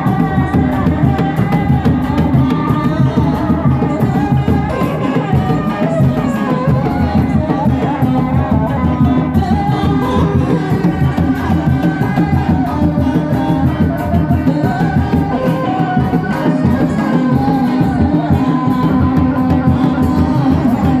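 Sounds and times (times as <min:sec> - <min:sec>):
person singing: 0:00.0 - 0:21.0
steady drumming: 0:00.0 - 0:21.0.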